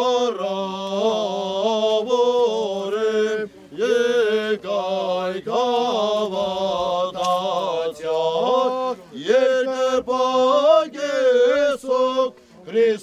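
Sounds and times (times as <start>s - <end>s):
man chanting a hymn: 0.0s - 13.0s.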